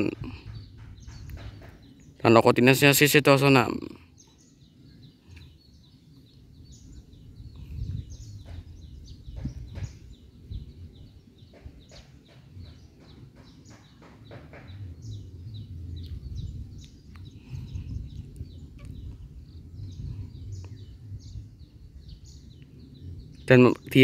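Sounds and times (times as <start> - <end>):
birds chirping: 0.0 - 24.0
low rumbling background noise: 0.0 - 24.0.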